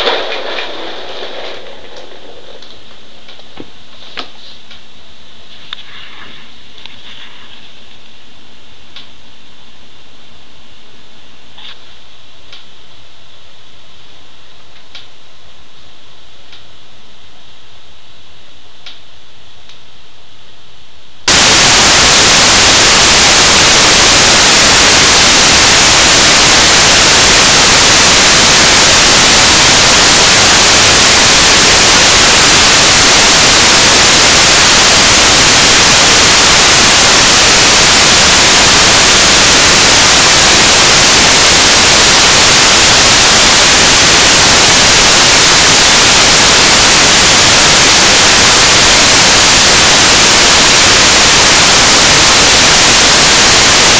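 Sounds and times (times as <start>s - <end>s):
loud static hiss: 0.0s - 53.9s.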